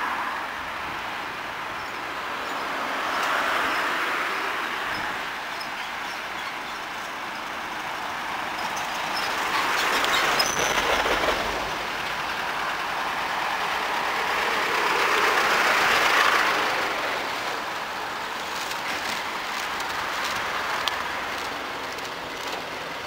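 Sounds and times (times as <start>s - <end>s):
electric train rushing: 0.1s - 23.0s.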